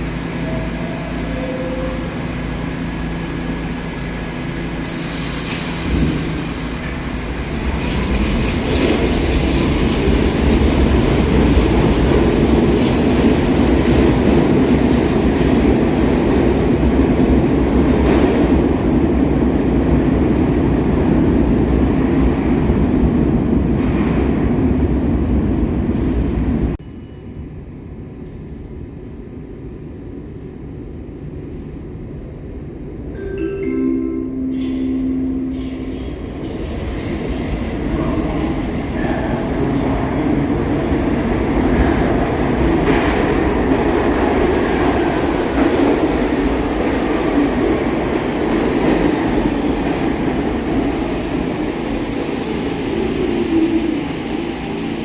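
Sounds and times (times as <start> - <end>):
subway train running on rails: 0.0 - 55.0.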